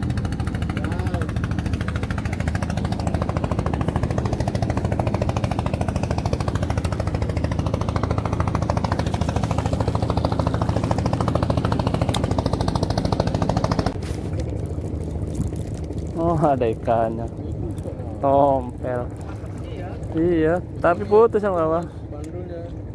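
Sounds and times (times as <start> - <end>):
boat engine chugging: 0.0 - 22.9.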